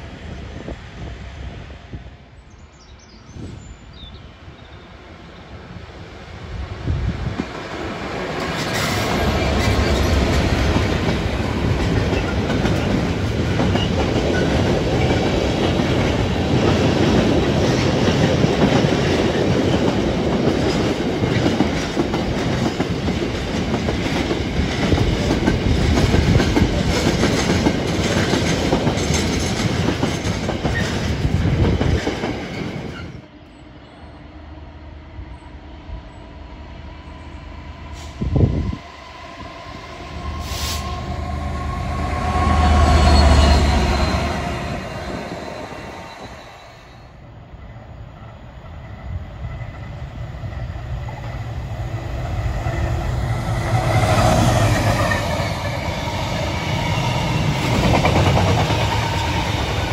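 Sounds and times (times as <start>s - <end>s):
diesel locomotive passing: 0.0s - 3.6s, 4.3s - 59.9s
distant locomotive rumble: 5.4s - 59.9s.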